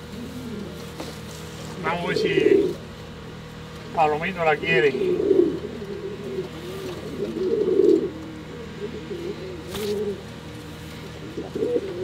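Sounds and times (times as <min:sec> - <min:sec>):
pigeon cooing: 0:00.0 - 0:02.9, 0:04.0 - 0:12.0.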